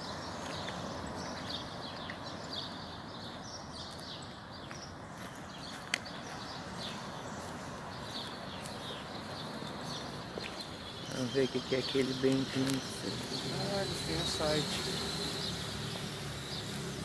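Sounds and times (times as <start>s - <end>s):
birds chirping: 0.0s - 17.0s
steady outdoor rush: 0.0s - 17.0s.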